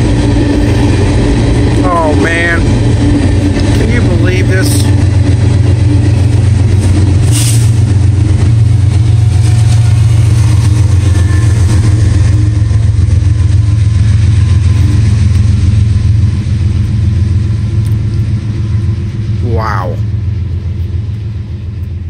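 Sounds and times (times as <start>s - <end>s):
diesel locomotive engines rumbling: 0.0s - 22.0s.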